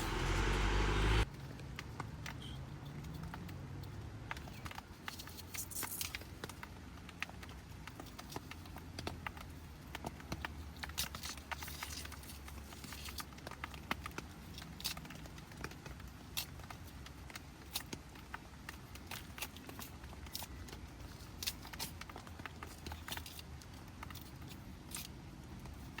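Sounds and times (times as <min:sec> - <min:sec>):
dry wood crackling and snapping: 0:00.0 - 0:26.0.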